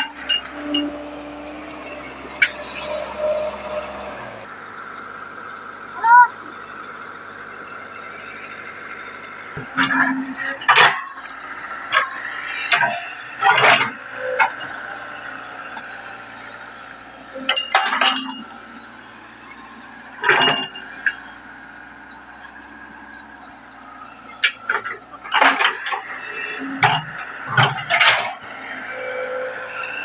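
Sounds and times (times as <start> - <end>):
excavator bucket clanking and scraping: 0.0 - 5.2, 6.1 - 30.0
excavator engine running: 0.0 - 30.0.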